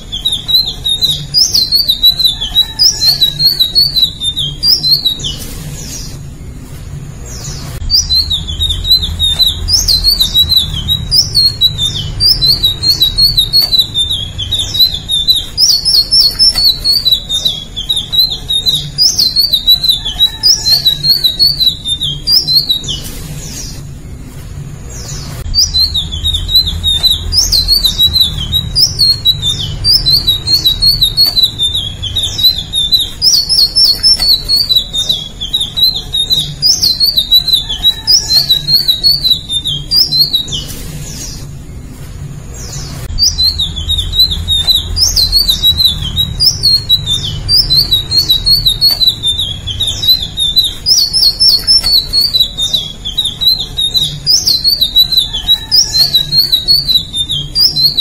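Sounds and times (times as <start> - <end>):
bird twittering song: 0.0 - 58.0.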